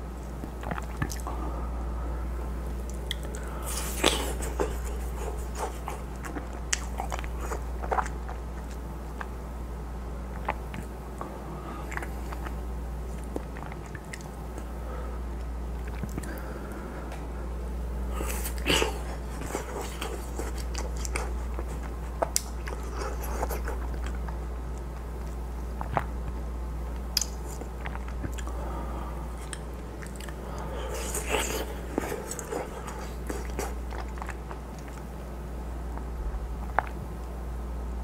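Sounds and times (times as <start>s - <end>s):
steady low hum: 0.0s - 38.0s
wet crunching and chewing: 0.2s - 1.3s, 2.6s - 9.5s, 10.2s - 16.4s, 18.1s - 28.6s, 29.3s - 37.4s.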